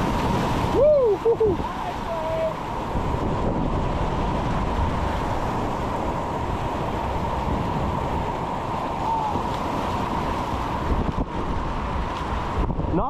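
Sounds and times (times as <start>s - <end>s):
whitewater rapids rushing: 0.0s - 12.5s.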